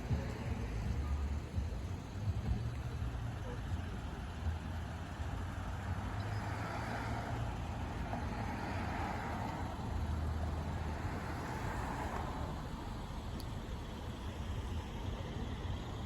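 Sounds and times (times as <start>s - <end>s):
low engine hum: 0.0s - 16.0s
vehicles passing: 0.0s - 16.0s.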